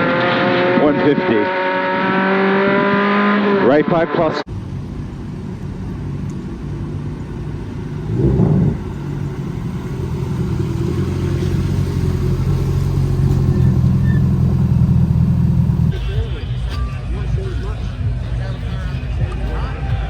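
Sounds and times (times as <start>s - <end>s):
car engine pulling hard: 0.0s - 20.0s.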